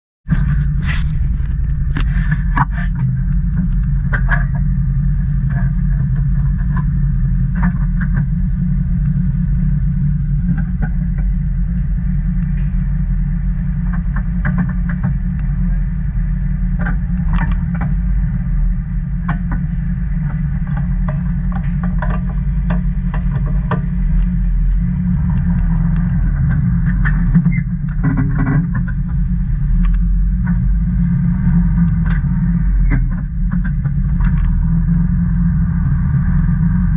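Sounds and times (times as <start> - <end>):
vehicle engine idling: 0.3 - 36.9.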